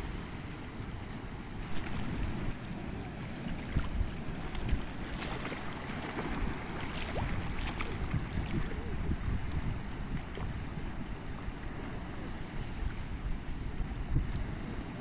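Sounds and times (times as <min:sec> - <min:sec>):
sea waves washing on shore: 0:00.0 - 0:15.0
wind rumble on microphone: 0:00.0 - 0:15.0.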